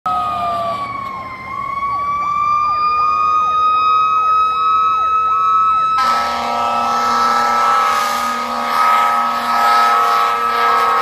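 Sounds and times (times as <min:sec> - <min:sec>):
fast sweeping siren: 0:00.1 - 0:11.0
steady wailing siren: 0:00.1 - 0:11.0.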